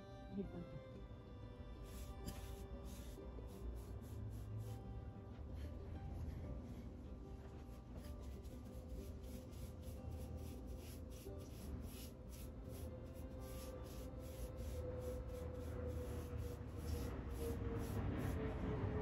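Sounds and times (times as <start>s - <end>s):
paintbrush strokes: 1.8s - 5.0s, 5.6s - 19.0s.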